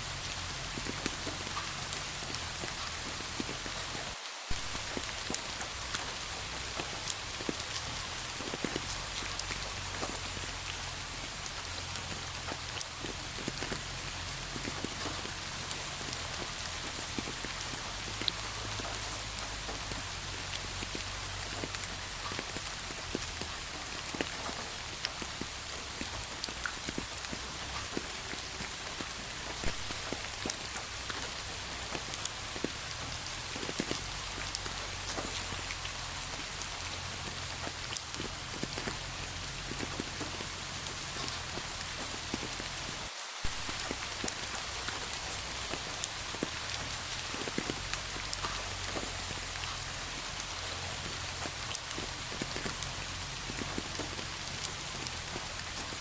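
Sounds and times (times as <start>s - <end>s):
rain drops ticking on a surface: 0.0s - 56.0s.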